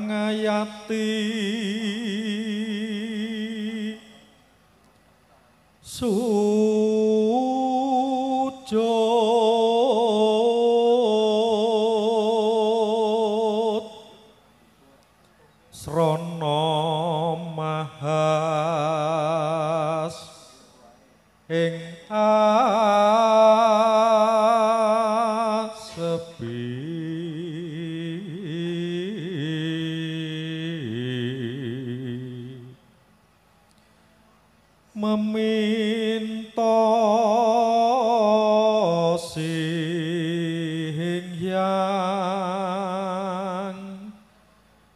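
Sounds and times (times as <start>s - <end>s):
man chanting into microphone: 0.0s - 4.4s, 5.8s - 14.4s, 15.7s - 32.8s, 35.0s - 44.2s.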